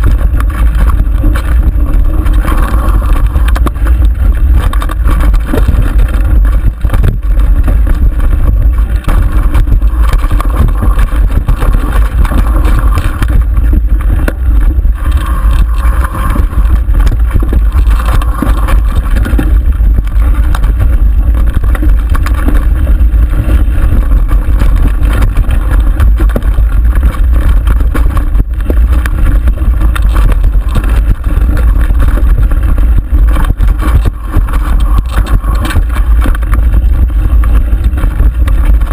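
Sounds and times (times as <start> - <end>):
bike rattling and knocking: 0.0 - 38.9
wind rumble on microphone: 0.0 - 38.9.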